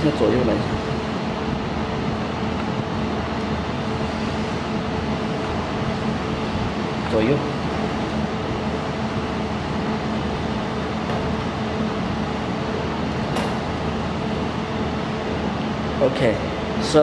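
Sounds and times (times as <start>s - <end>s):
welding machine humming: 0.0s - 17.0s.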